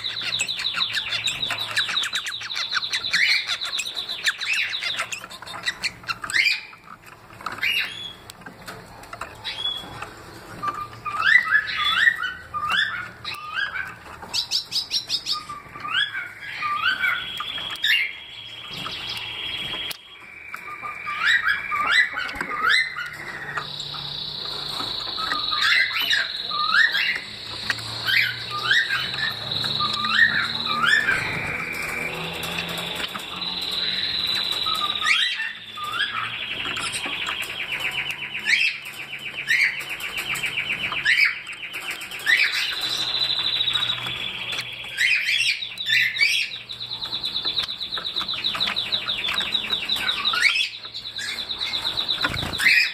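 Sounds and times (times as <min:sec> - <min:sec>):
finches chirping and singing: 0:00.0 - 0:52.9.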